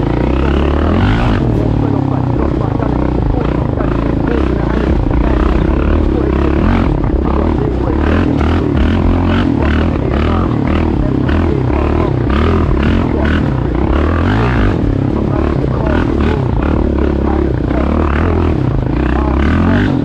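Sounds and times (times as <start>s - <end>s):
music with heavy bass line: 0.0s - 20.0s
person singing: 0.0s - 20.0s.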